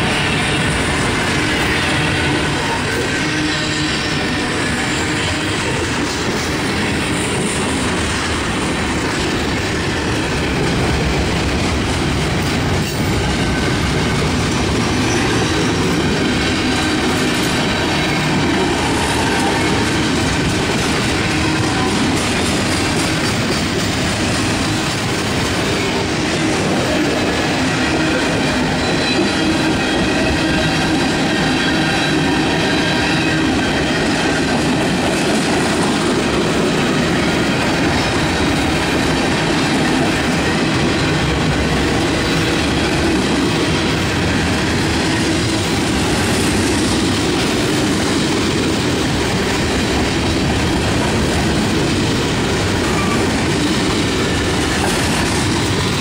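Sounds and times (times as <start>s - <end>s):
freight train rumbling past: 0.0s - 56.0s
wheels clattering on rails: 4.0s - 56.0s.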